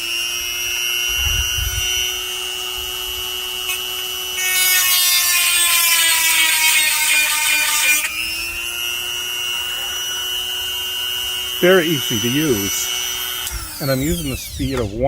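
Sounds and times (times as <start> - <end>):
sharpener motor running: 0.0 - 15.0.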